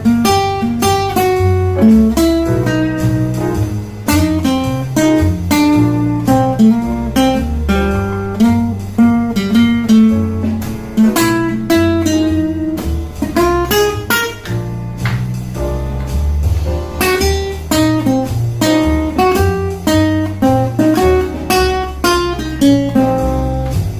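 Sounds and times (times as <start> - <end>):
fingerstyle acoustic guitar: 0.0 - 23.9.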